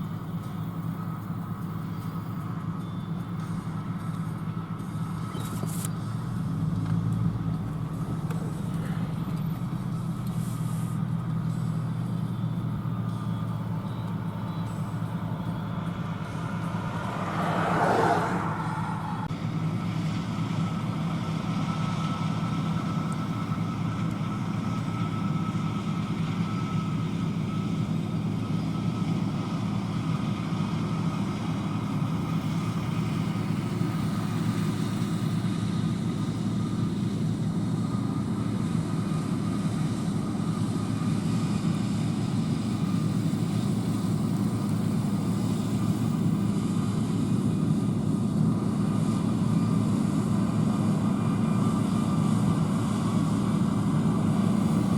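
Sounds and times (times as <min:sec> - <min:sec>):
combine harvester engine drone: 0:00.0 - 0:54.9
faint steady whine: 0:00.0 - 0:54.9.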